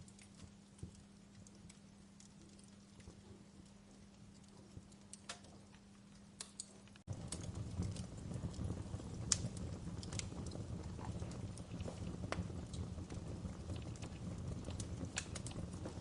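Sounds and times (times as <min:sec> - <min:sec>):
fireplace crackling: 0:00.0 - 0:16.0
low rumble of fire: 0:00.0 - 0:16.0.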